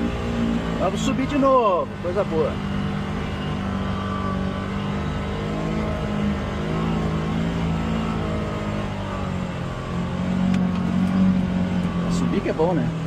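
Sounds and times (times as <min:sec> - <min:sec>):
utility vehicle engine under load: 0:00.0 - 0:13.0.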